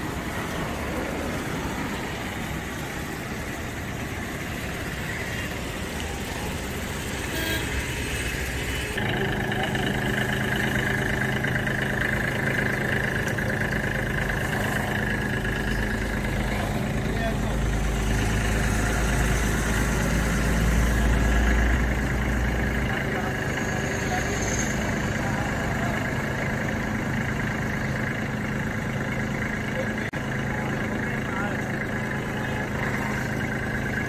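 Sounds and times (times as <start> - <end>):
road traffic noise: 0.0 - 34.0
tractor diesel engine idling: 0.0 - 34.0.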